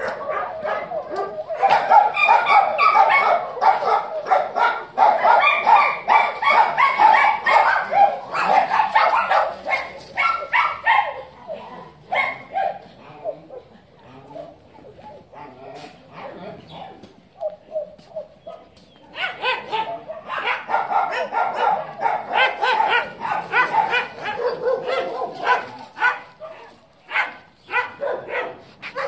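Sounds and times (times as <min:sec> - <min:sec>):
dogs barking: 0:00.0 - 0:29.0.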